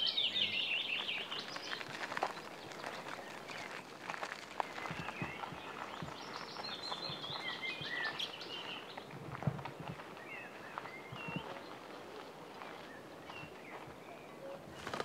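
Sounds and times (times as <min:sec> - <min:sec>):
songbirds singing and chirping: 0:00.0 - 0:15.0
footsteps on a path: 0:00.8 - 0:14.3.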